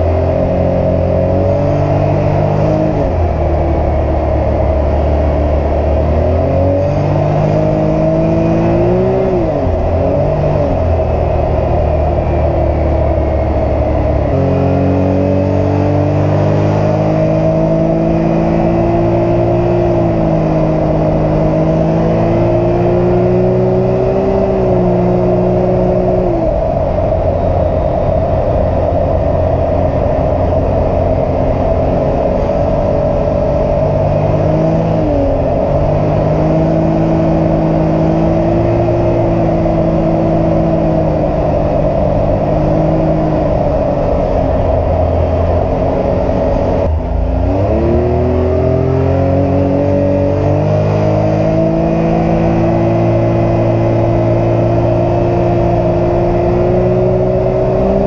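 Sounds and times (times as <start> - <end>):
engine running heard from cab: 0.0 - 58.0
road noise: 0.0 - 58.0.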